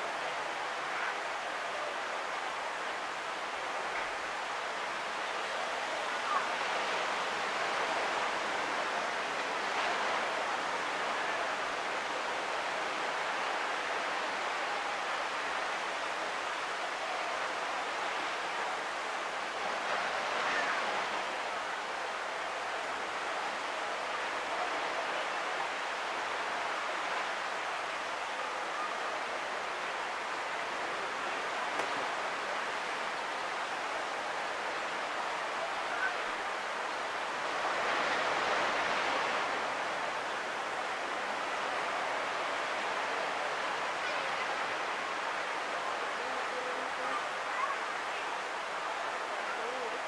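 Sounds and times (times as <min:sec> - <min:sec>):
ocean surf breaking on beach: 0:00.0 - 0:50.0.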